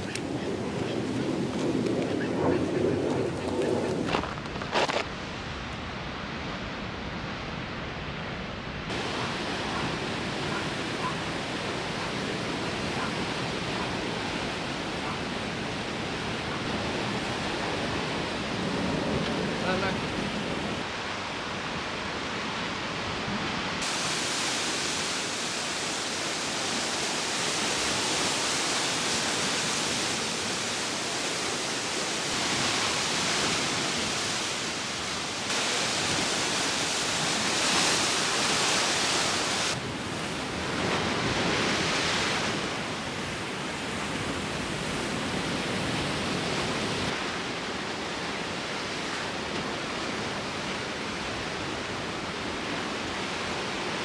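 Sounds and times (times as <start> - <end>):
surf washing over rocks: 8.8 - 54.0.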